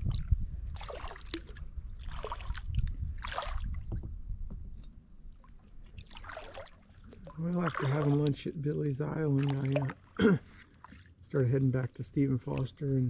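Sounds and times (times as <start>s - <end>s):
paddle swishing through water: 0.0s - 13.0s.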